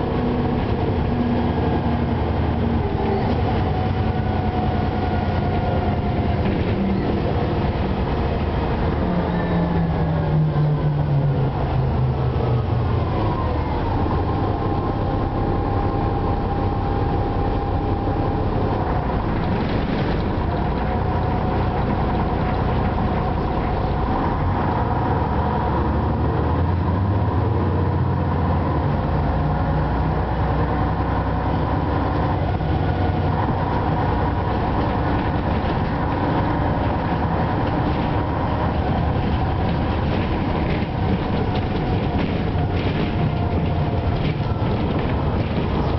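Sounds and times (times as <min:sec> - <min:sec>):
bus diesel engine running: 0:00.0 - 0:45.9
road and body noise: 0:00.0 - 0:45.9.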